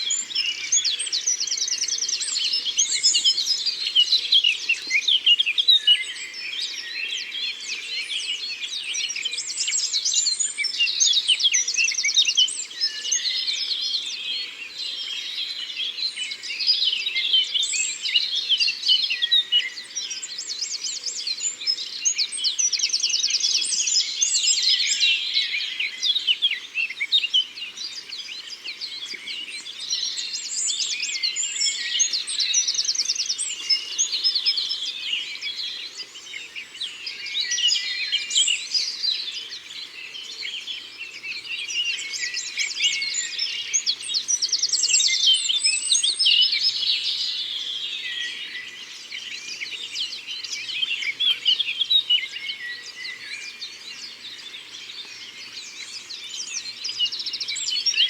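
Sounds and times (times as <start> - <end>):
songbirds chorus: 0.0 - 58.0.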